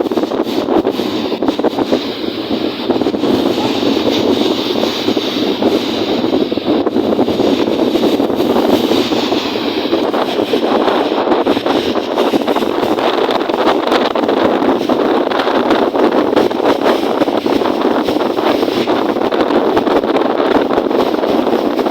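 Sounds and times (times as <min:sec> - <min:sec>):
strong wind on microphone: 0:00.0 - 0:21.9.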